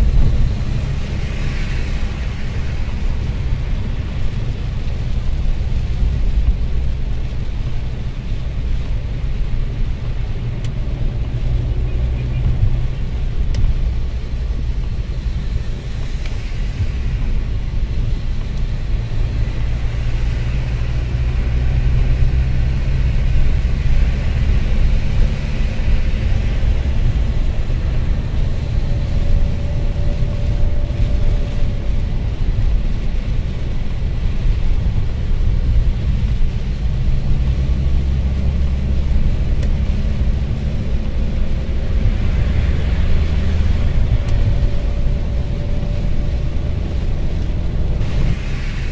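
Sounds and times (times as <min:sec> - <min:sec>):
engine and road noise drone: 0:00.0 - 0:48.9
tyres hissing on wet road: 0:00.0 - 0:48.9.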